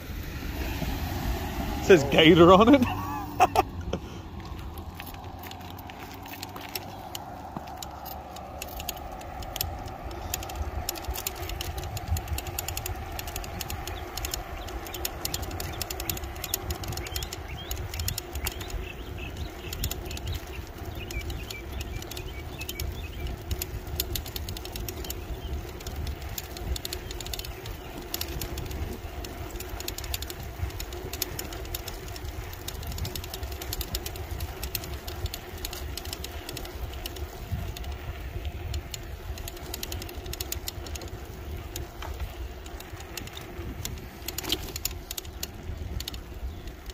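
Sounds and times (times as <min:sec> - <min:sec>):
rattles and clicks over pavement: 0:00.0 - 0:46.9
wind rumbling on microphone: 0:00.0 - 0:46.9.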